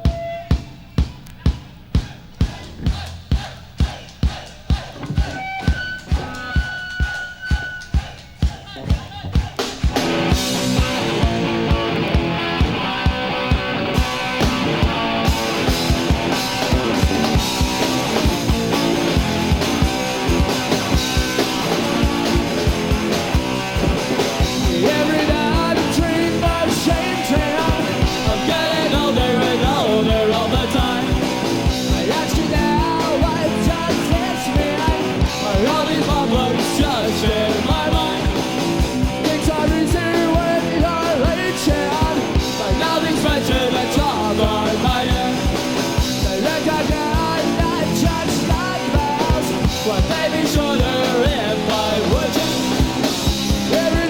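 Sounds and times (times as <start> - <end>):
punk rock band playing live: 0.0 - 54.0.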